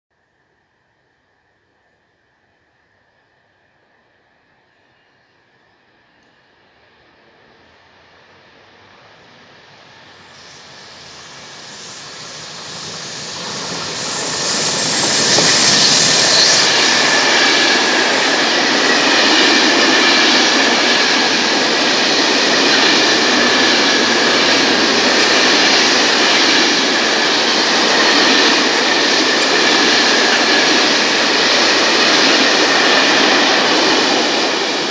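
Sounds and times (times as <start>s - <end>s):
thin high whine: 1.1s - 34.9s
train wheels rushing on rails: 6.0s - 34.9s.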